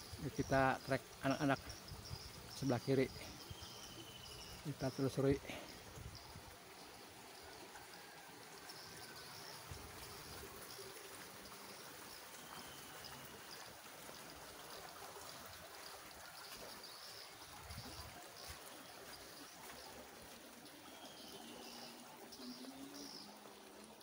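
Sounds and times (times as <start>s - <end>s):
water trickling in channel: 0.0s - 24.0s.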